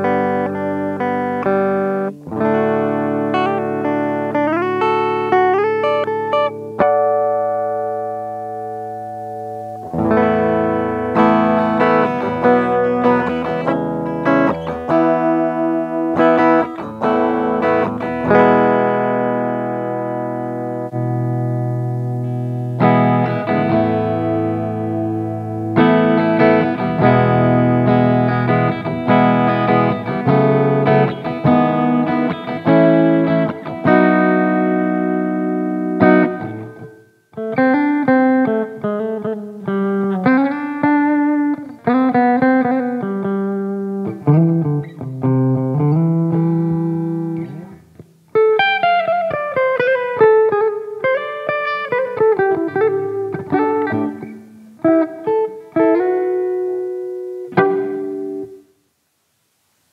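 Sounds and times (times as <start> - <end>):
electric guitar chords and lead: 0.0 - 59.0.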